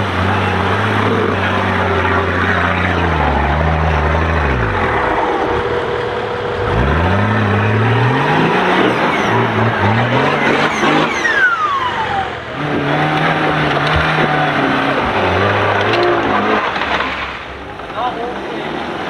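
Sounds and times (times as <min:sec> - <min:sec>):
off-road vehicle engine under load: 0:00.0 - 0:19.0.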